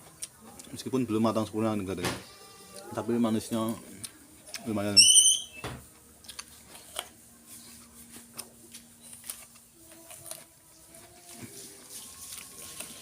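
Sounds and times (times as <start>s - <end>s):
person chewing crisp fruit: 0.0s - 1.5s, 2.4s - 4.9s, 6.1s - 13.0s.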